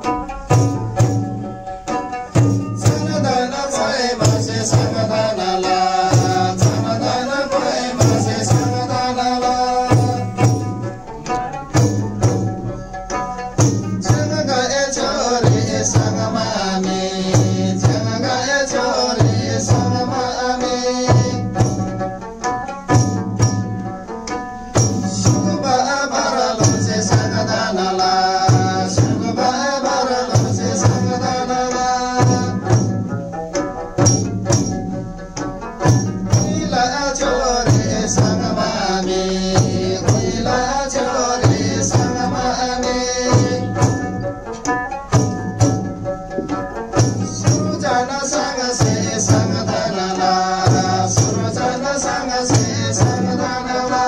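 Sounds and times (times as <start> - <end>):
frame drums beating: 0.0 - 54.0
group singing: 0.0 - 54.0.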